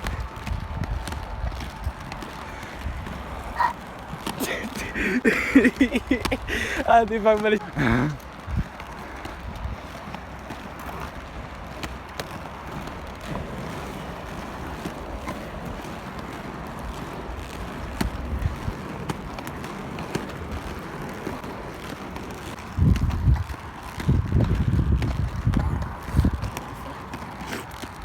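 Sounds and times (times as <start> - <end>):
wind noise on microphone: 0.0 - 12.1, 13.0 - 28.0
roller-skate wheels rolling on pavement: 0.0 - 28.0.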